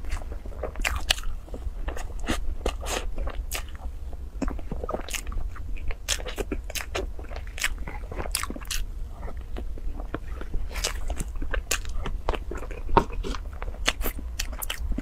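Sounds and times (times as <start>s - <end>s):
wet lip smacks and chewing: 0.0s - 15.0s.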